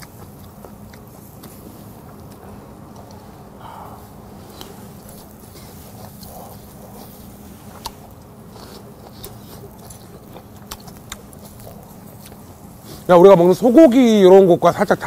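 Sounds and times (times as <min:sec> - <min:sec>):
man chewing crunchy meat: 0:00.0 - 0:13.6.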